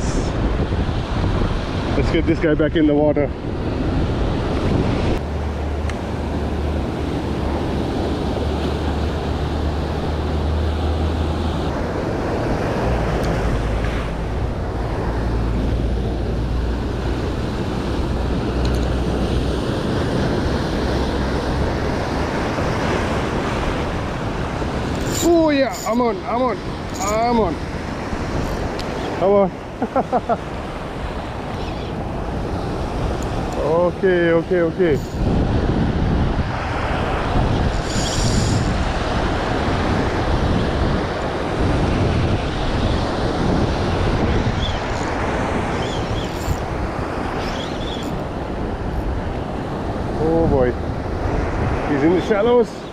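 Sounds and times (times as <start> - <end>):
wind buffeting microphone: 0.0 - 29.8, 30.4 - 52.9
sea surf breaking on beach: 0.0 - 52.9.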